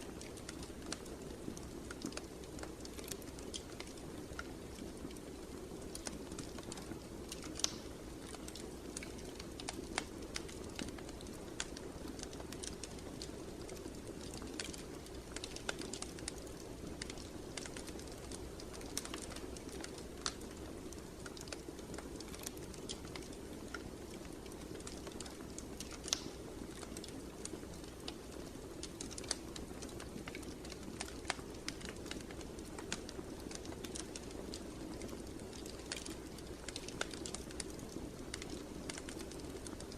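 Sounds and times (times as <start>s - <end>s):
fire snaps and pops: 0.0s - 39.9s
low rush of flames: 0.1s - 39.9s.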